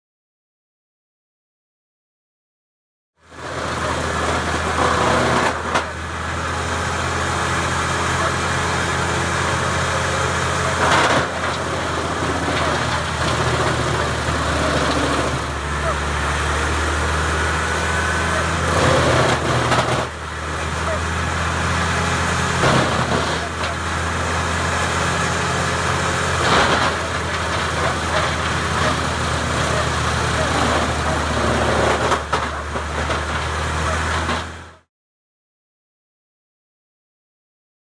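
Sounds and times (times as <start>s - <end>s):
wood chipper engine running: 3.2s - 34.9s.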